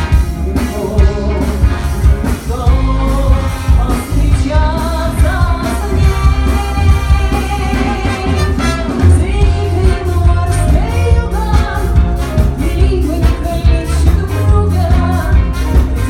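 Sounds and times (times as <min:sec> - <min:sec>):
heavy bass: 0:00.0 - 0:16.0
steady drum beat: 0:00.0 - 0:16.0
person singing lead: 0:00.3 - 0:16.0.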